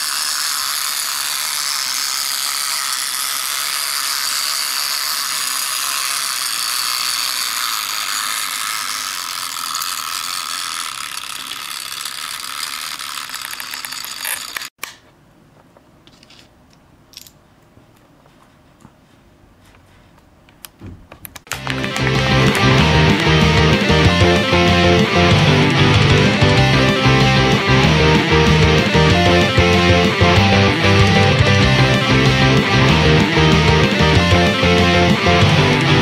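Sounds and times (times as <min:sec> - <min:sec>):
toy mechanism rattling whir: 0:00.0 - 0:14.8, 0:21.4 - 0:36.0.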